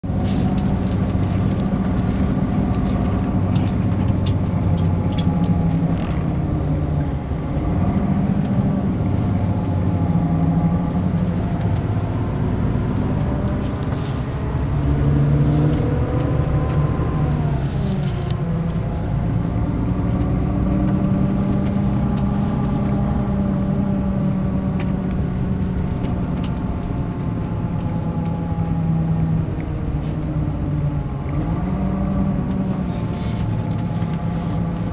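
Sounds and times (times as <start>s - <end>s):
diesel coach engine running: 0.0s - 34.9s.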